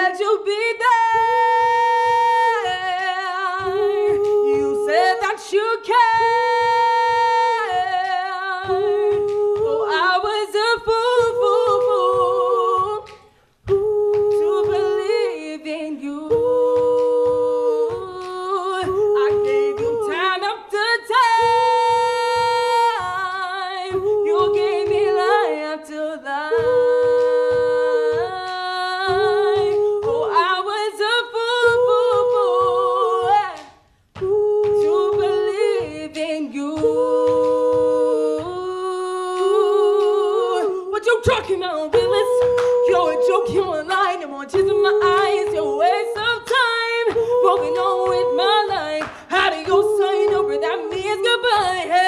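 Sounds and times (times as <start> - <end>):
foot stomping a beat: 0.0 - 52.0
harmonising backing voices: 0.0 - 52.0.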